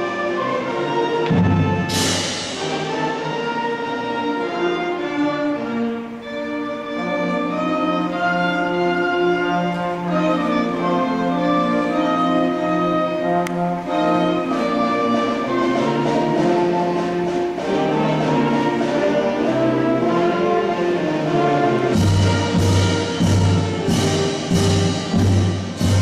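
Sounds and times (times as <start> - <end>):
concert band playing: 0.0 - 26.0.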